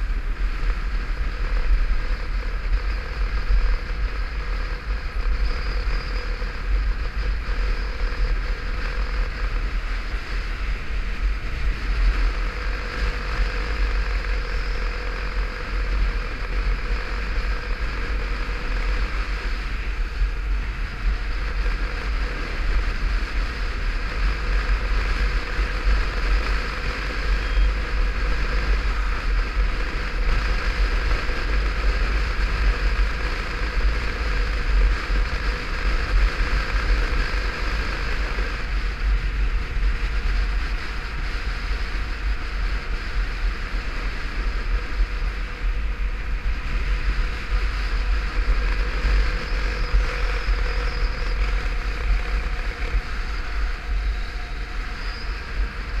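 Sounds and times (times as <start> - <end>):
motorcycle engine drone: 0.0 - 56.0
wind rumble on microphone: 0.0 - 56.0.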